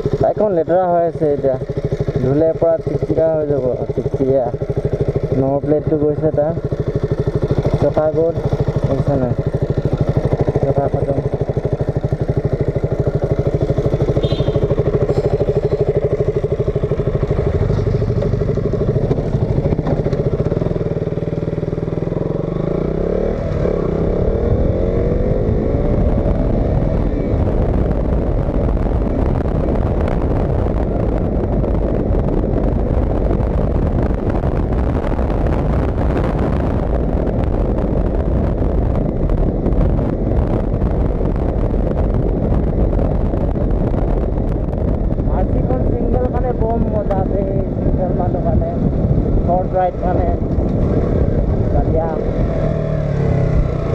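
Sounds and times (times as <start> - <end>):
motorcycle engine accelerating: 0.0 - 53.9
wind noise: 0.0 - 53.9.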